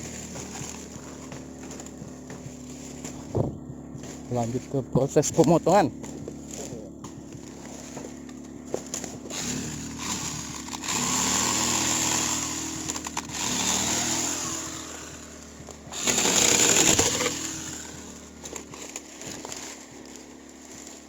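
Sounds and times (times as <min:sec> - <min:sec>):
electric chainsaw cutting branch: 0:00.0 - 0:21.0.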